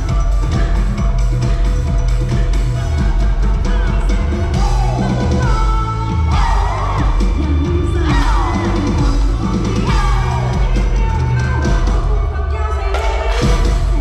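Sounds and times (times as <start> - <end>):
dance music with heavy drum beat: 0.0 - 14.0
person singing: 0.0 - 14.0.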